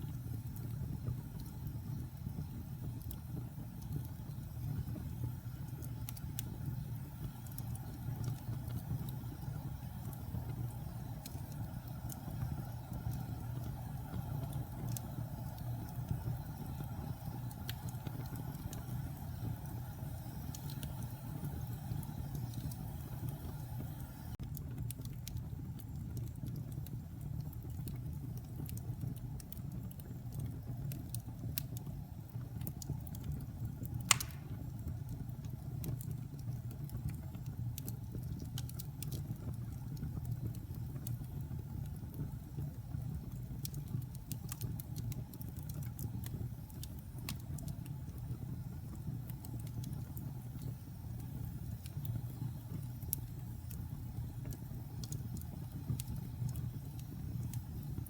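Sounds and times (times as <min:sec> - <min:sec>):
fire crackling and popping: 0:00.0 - 0:58.0
fire rumbling in fireplace: 0:00.0 - 0:58.0.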